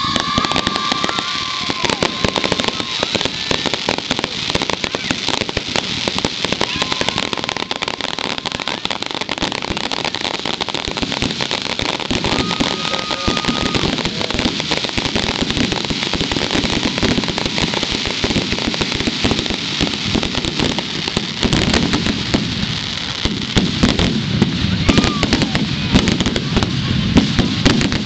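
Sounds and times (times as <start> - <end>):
fireworks crackling pops and bangs: 0.0 - 28.0.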